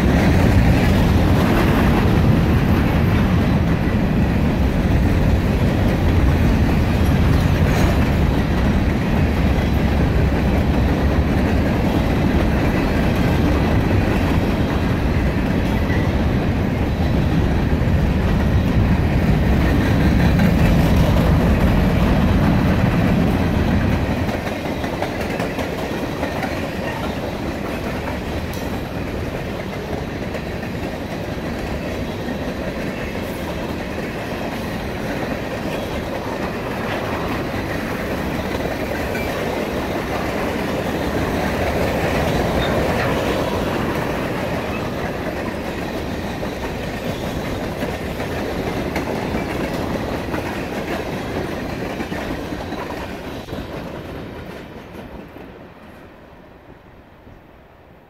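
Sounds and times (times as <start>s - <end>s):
wheels clacking on rails: 0.0s - 56.4s
freight train rumbling past: 0.0s - 58.0s.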